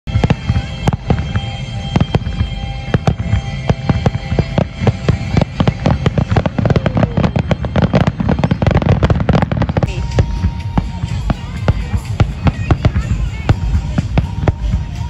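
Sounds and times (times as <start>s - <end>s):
fireworks bursting: 0.1s - 15.0s
music playing: 0.1s - 15.0s.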